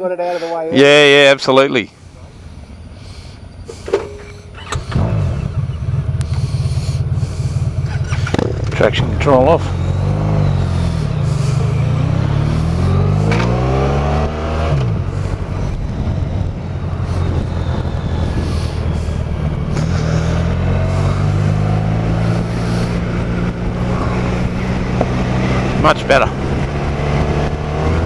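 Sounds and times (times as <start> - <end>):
wind and road rush: 0.7 - 28.0
motorcycle engine accelerating: 2.2 - 28.0.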